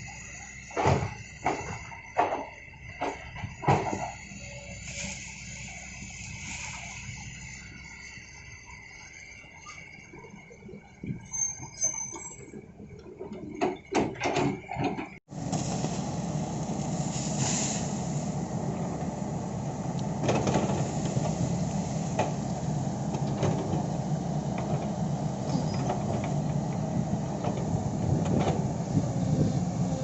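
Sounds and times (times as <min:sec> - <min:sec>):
hydraulic excavator running: 0:00.0 - 0:30.0.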